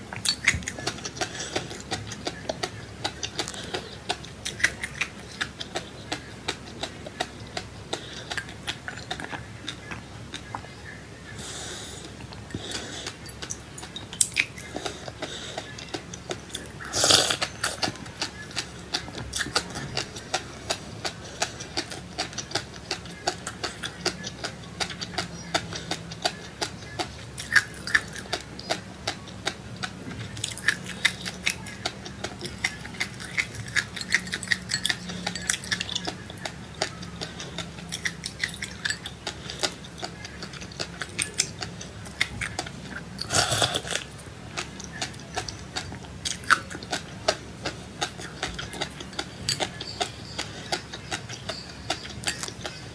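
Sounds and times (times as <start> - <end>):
chewing and crunching seeds: 0.0 - 52.9.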